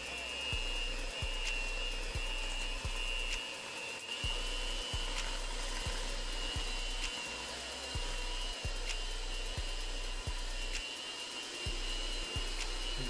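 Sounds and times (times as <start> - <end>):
electric mixer whine: 0.0 - 13.0.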